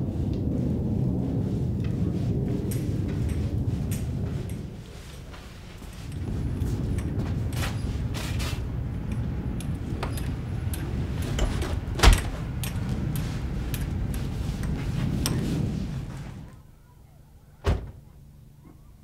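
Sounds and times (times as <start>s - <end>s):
low rumble: 0.0s - 17.2s.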